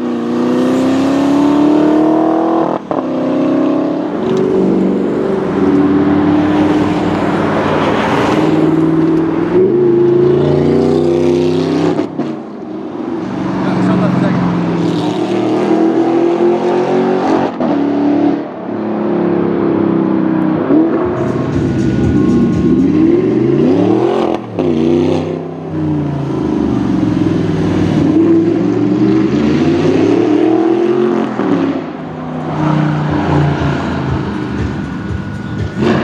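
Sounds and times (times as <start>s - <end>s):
sports car engine accelerating: 0.0s - 36.0s.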